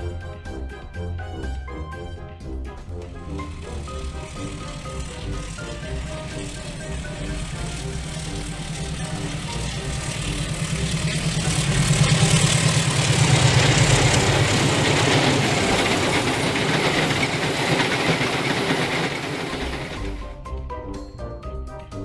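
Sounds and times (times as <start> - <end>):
train passing at speed: 2.8 - 20.4.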